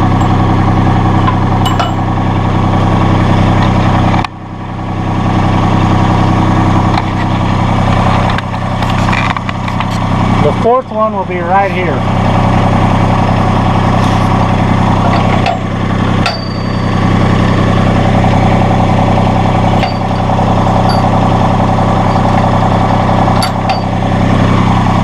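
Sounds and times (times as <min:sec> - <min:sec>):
diesel tractor engine idling: 0:00.0 - 0:25.0.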